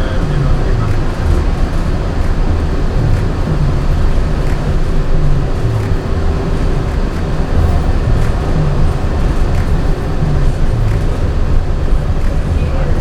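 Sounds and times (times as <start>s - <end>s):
monorail rumble and drive hum: 0.0s - 13.0s.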